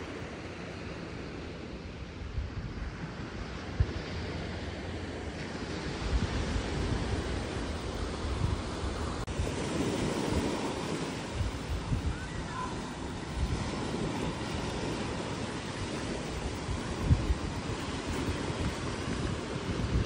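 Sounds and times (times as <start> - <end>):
small waves washing on sand: 0.0 - 20.0
wind rumbling on microphone: 0.0 - 20.0.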